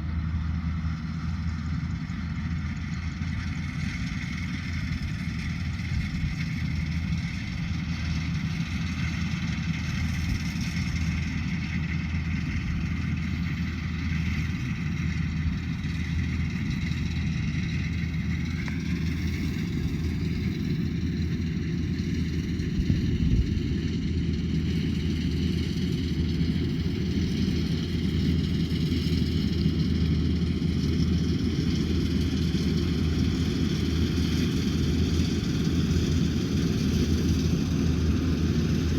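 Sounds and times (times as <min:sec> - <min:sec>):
harvester engine hum: 0:00.0 - 0:38.9
high machinery whine: 0:00.0 - 0:38.9.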